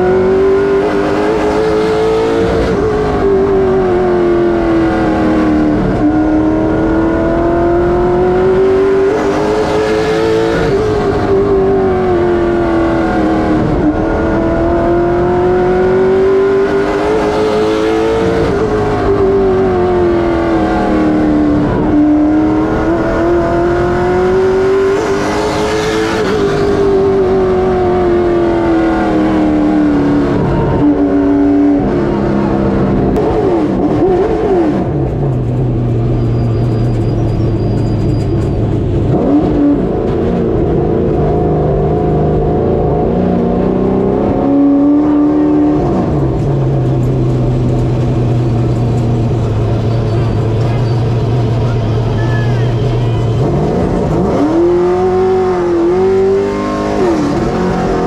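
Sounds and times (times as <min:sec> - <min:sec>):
race car engine revving and idling: 0:00.0 - 0:58.0.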